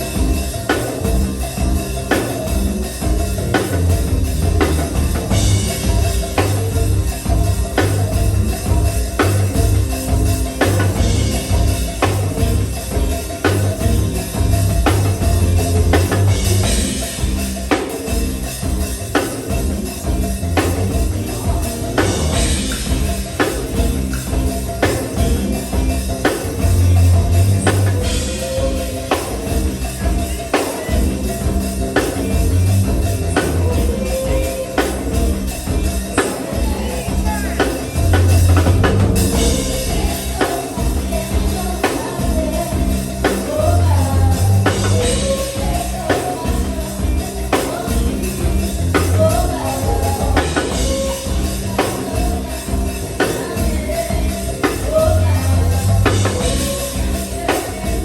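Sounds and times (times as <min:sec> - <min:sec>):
drum kit and percussion: 0:00.0 - 0:58.0
heavy bass: 0:00.0 - 0:58.0.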